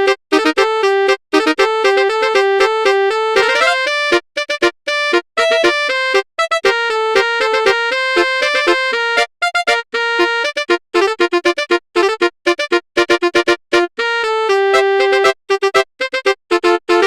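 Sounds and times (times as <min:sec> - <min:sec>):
bright bus horn melody: 0:00.0 - 0:17.0.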